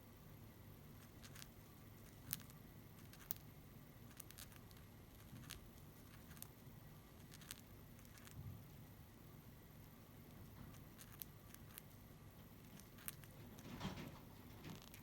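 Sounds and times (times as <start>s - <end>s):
quiet low hum: 0.0s - 15.0s.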